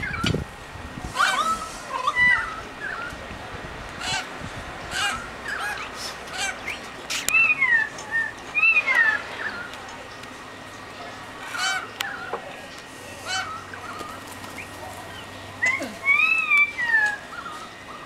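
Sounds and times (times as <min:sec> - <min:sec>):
wild birds calling: 0:01.1 - 0:03.2, 0:04.0 - 0:18.0.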